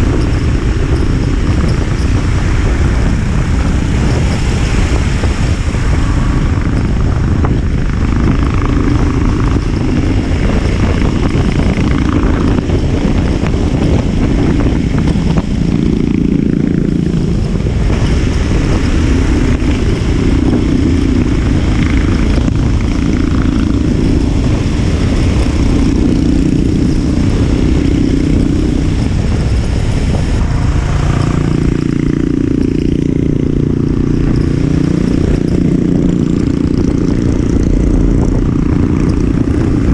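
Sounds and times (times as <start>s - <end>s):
motorcycle engine and exhaust: 0.0s - 39.9s
wind noise: 0.0s - 39.9s.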